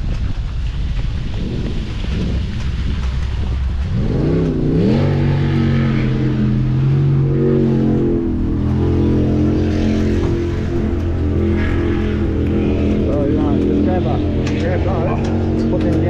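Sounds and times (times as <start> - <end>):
boat engine revving: 1.4 - 16.0.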